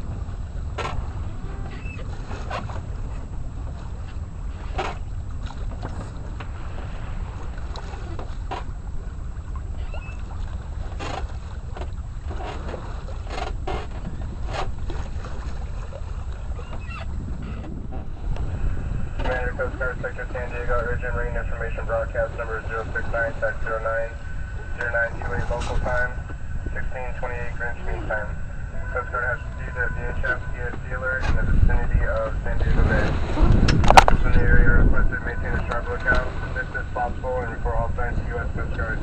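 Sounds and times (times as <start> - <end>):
water slapping against hull: 0.0 - 39.0
wind rumbling on microphone: 0.0 - 39.0.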